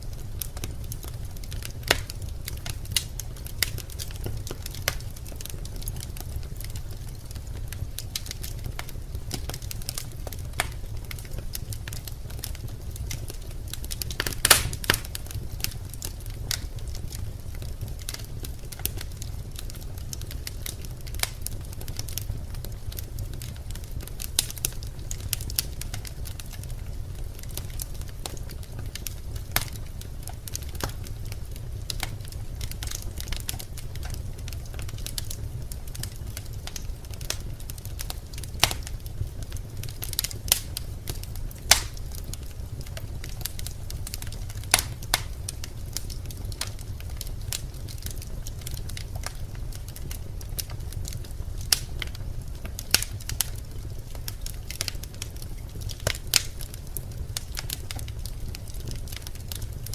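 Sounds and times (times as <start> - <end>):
fire rumbling: 0.0 - 59.9
wood crackling and popping: 0.0 - 59.9.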